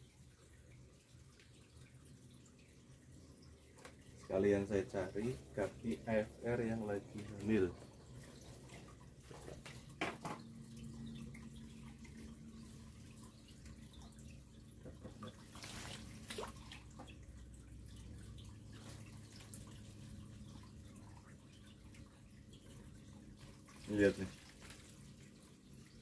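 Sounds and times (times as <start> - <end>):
water sloshing and dripping: 0.0 - 26.0
short water splashes: 0.4 - 26.0.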